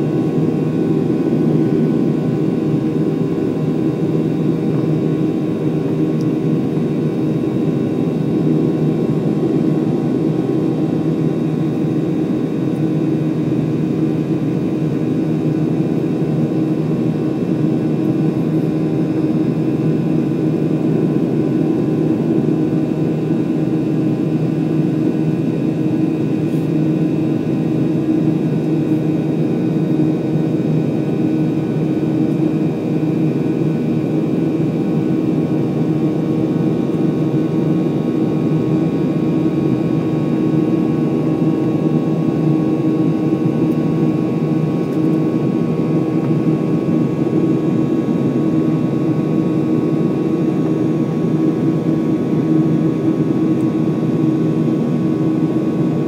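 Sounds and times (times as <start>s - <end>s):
jet engine low rumble: 0.0s - 56.0s.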